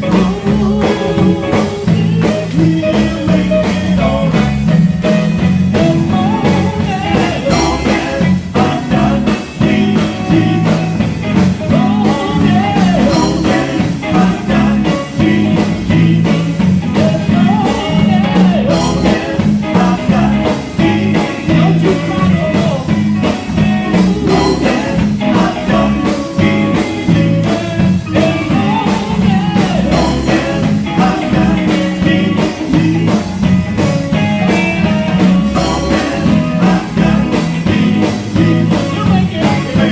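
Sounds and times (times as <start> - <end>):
person singing: 0.0 - 4.8, 5.7 - 39.9
electric guitar: 0.0 - 39.9
gospel band music: 0.0 - 39.9.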